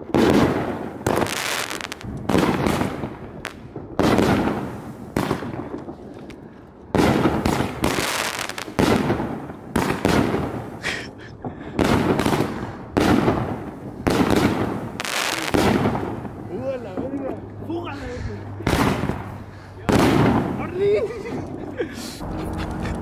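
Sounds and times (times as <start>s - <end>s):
fireworks bangs: 0.0s - 17.2s, 18.5s - 23.0s.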